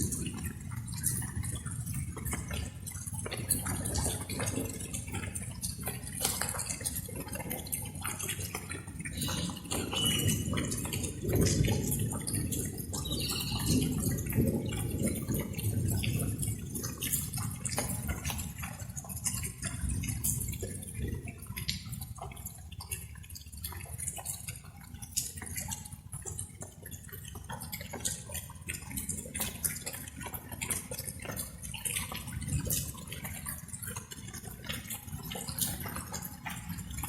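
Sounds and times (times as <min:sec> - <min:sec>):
rain drops dripping: 0:00.0 - 0:37.0.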